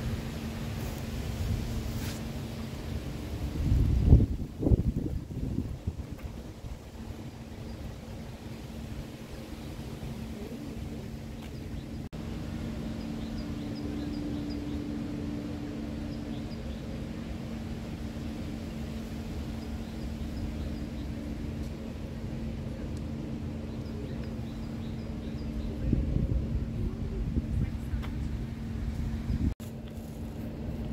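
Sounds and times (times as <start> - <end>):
engine-like hum: 0.0 - 30.9
traffic rumble: 0.0 - 30.9.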